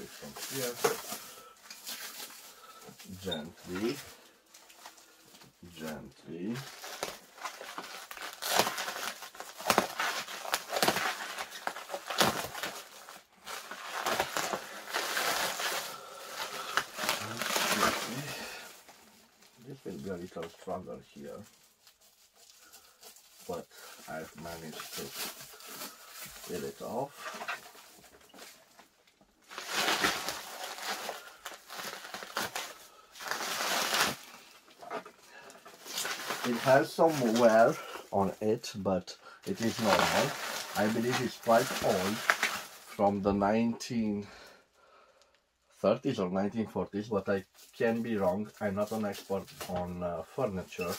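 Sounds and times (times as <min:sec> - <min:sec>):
plastic wrapping crinkling: 0:00.0 - 0:38.6, 0:39.4 - 0:43.3, 0:47.3 - 0:50.9.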